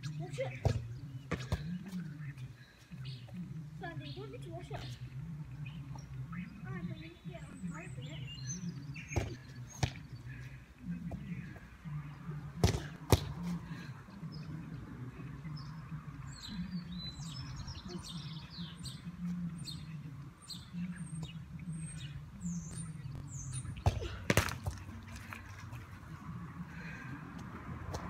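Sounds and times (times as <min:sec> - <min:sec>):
small birds chirping: 0:00.0 - 0:24.2.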